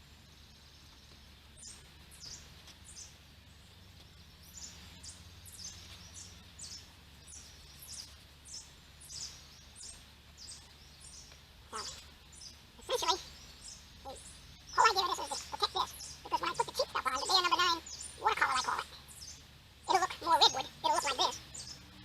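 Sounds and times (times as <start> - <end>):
low steady hum: 0.0 - 22.0
small bird chirping: 0.0 - 22.0.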